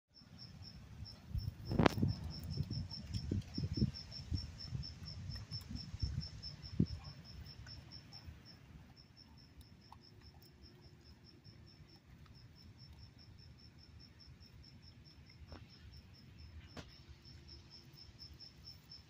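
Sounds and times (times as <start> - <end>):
cricket chirping: 0.2 - 19.0.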